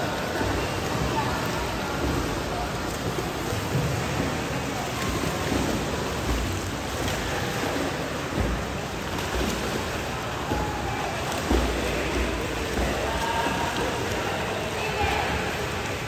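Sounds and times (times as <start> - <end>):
swimmers splashing: 0.0 - 16.0.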